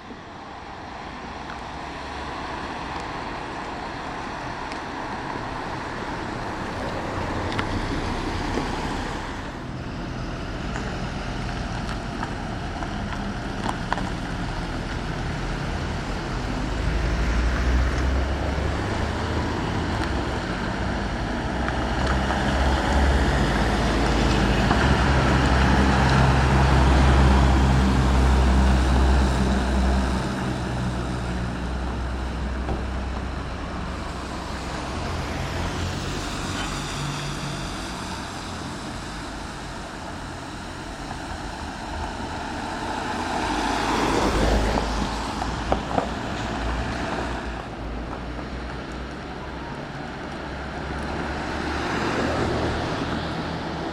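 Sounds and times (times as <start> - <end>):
heavy vehicle engine: 0.0 - 53.9
road traffic passing: 0.0 - 53.9.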